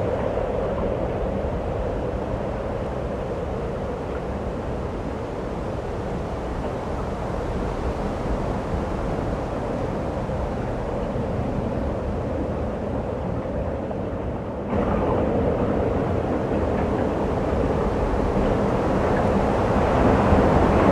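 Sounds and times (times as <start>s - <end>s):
snowstorm wind roaring: 0.0s - 20.9s.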